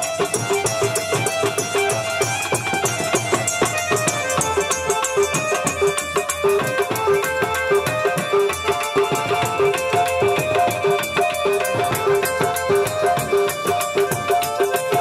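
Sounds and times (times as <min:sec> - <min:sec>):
drum beating fast rhythm: 0:00.0 - 0:15.0
repeated folk melody: 0:00.0 - 0:15.0.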